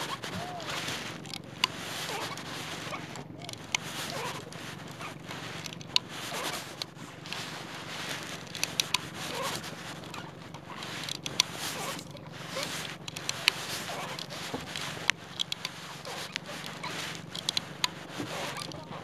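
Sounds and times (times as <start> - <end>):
sharp clicks: 0.0 - 18.8
hands handling fishing line: 0.0 - 19.0.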